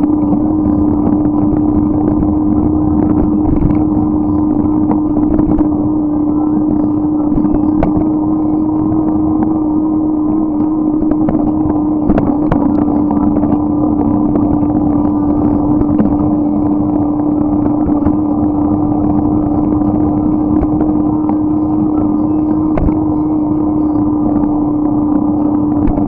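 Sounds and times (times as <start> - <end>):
bike riding hum and rumble: 0.0 - 26.0.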